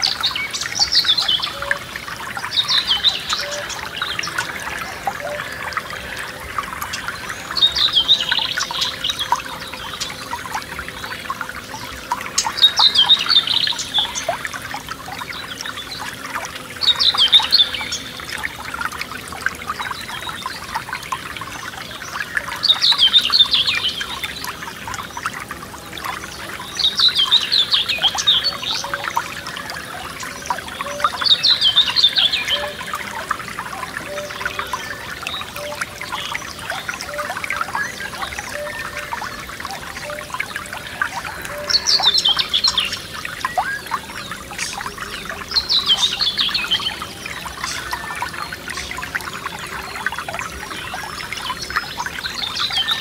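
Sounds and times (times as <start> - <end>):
songbird singing: 0.0 - 18.9, 19.8 - 53.0
stream trickling over stones: 0.0 - 53.0.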